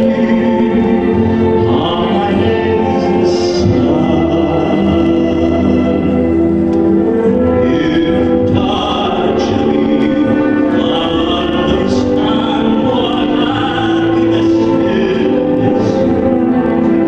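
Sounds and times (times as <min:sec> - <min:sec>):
instrumental backing: 0:00.0 - 0:17.0
tenor singing operatic song: 0:00.0 - 0:17.0.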